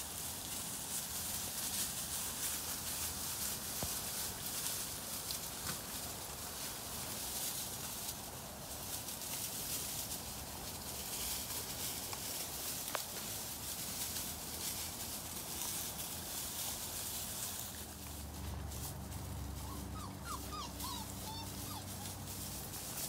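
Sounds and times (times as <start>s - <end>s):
puppies rustling straw: 0.0s - 23.0s.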